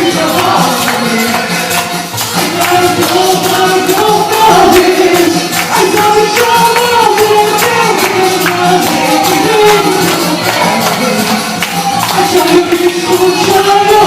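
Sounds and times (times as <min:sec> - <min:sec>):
fast tambourine beat: 0:00.0 - 0:14.0
lively song: 0:00.0 - 0:14.0.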